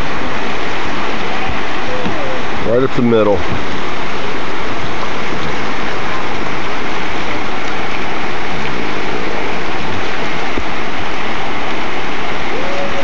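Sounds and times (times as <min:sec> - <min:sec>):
whitewater rapid rushing: 0:00.0 - 0:13.0.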